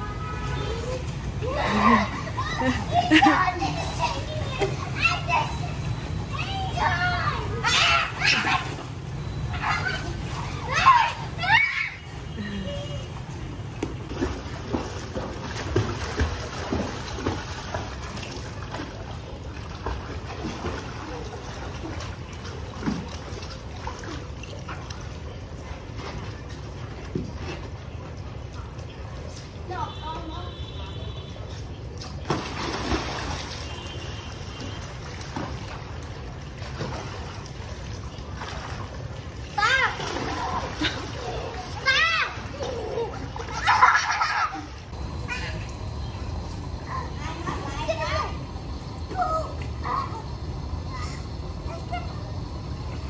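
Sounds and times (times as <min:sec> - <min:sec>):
child splashing in pool water: 0:00.2 - 0:13.4, 0:14.0 - 0:46.2.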